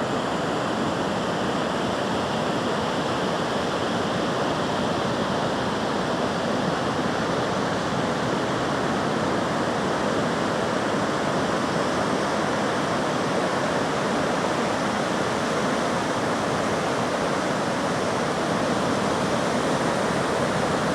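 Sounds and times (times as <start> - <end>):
rushing water: 0.0 - 20.9.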